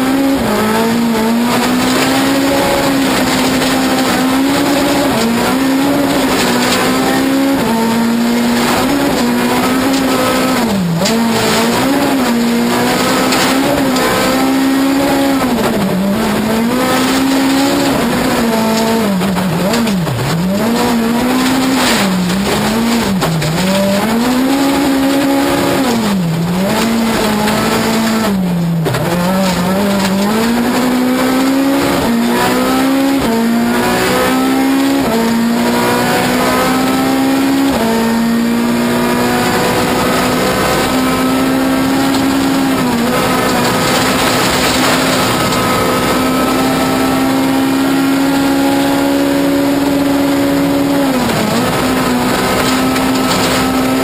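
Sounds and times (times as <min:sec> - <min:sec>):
tyres on gravel: 0:00.0 - 0:38.0, 0:39.4 - 0:47.4, 0:50.4 - 0:54.0
rally car engine revving: 0:00.0 - 0:54.0.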